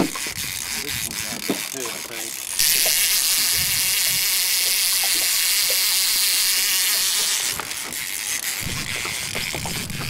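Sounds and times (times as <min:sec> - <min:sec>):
fishing reel clicks: 0:00.0 - 0:10.0
fishing reel drag buzzing: 0:00.0 - 0:10.0.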